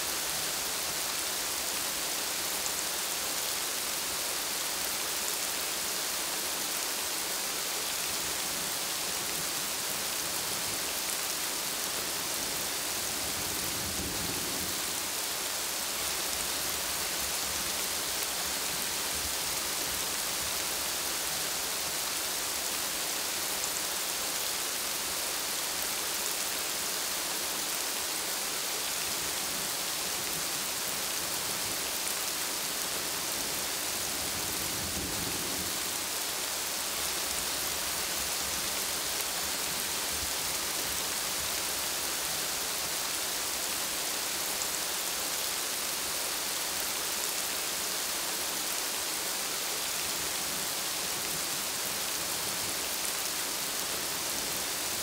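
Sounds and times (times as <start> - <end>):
rain on broad leaves: 0.0 - 55.0.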